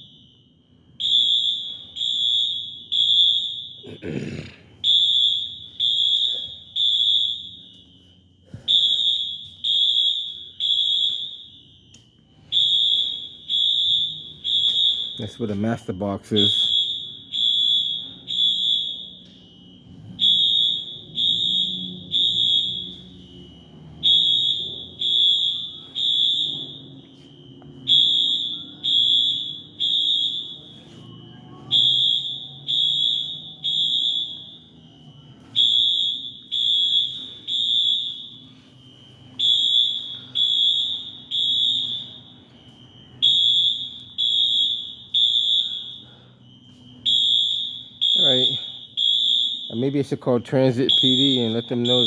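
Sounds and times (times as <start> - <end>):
fire alarm horn beeps: 0.0 - 4.1, 4.7 - 52.0.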